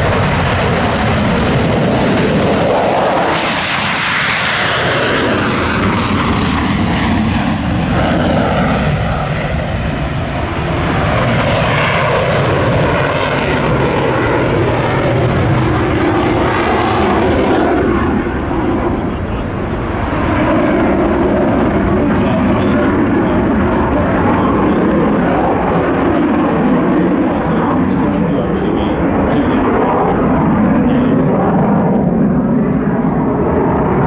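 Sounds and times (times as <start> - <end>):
jet flying past: 0.0 - 34.0
loud rumble: 0.0 - 34.0.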